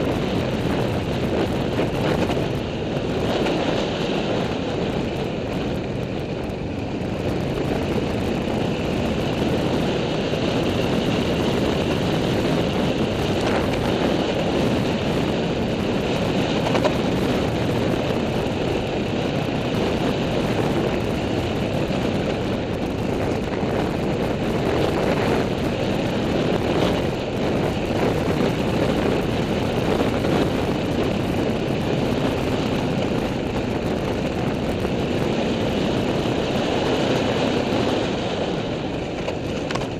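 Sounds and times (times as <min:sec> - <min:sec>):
off-road vehicle engine: 0:00.0 - 0:39.9
trail rumble: 0:00.0 - 0:39.9
wind: 0:00.0 - 0:39.9.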